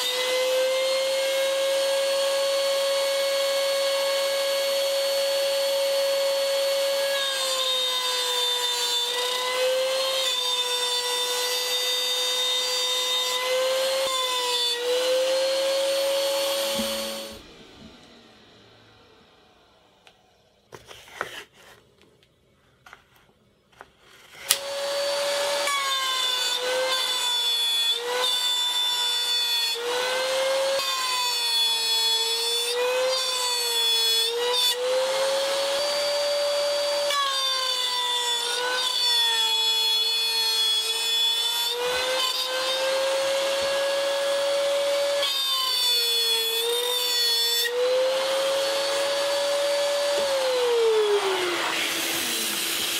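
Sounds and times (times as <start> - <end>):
router cutting wood: 0.0 - 20.3, 24.1 - 52.9.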